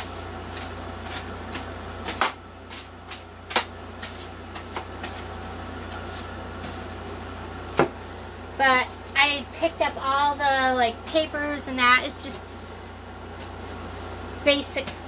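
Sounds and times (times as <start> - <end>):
broom sweeping floor: 0.0 - 15.0.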